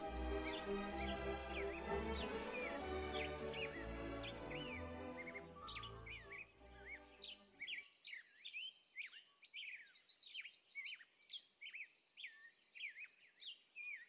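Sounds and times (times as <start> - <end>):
songbirds chirping and whistling: 0.0 - 14.0.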